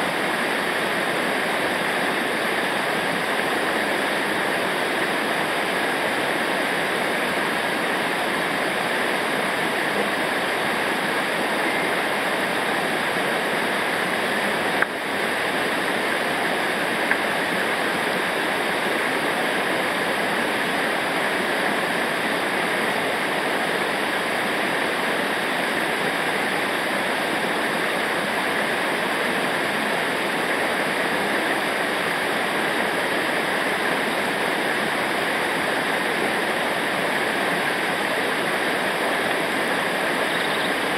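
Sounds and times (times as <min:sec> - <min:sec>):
river water rushing over rapids: 0:00.0 - 0:40.9.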